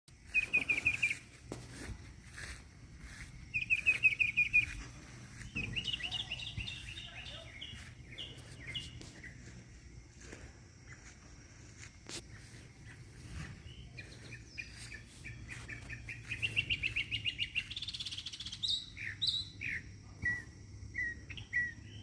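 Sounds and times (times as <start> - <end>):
faint steady hum: 0.1 - 22.0
small birds chirping: 0.1 - 22.0.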